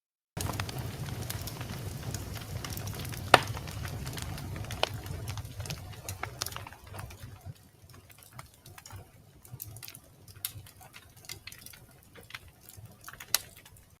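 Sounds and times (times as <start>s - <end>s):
wood fire crackling: 0.4s - 14.0s.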